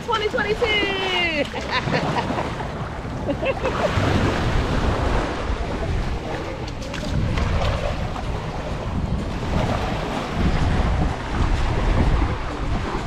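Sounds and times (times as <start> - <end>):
waves washing onto beach: 0.0 - 13.0
wind buffeting microphone: 0.0 - 13.0.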